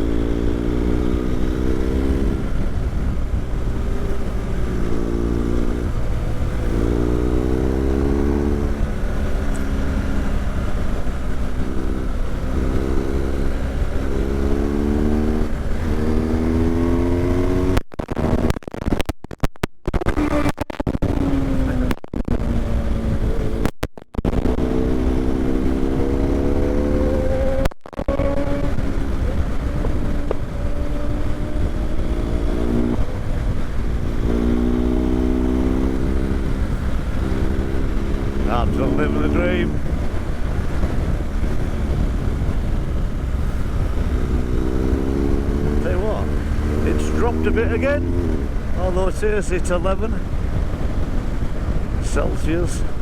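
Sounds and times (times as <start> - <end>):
motorcycle engine revving through gears: 0.0 - 19.1, 20.0 - 53.0.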